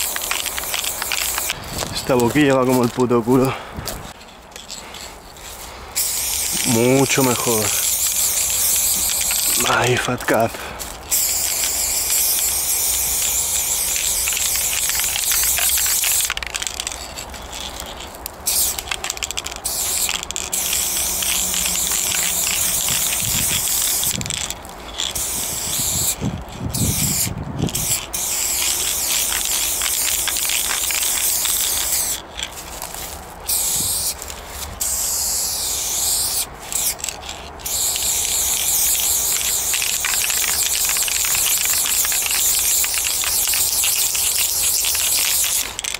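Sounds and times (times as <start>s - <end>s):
spray paint can hissing: 0.0s - 3.4s, 4.0s - 45.9s.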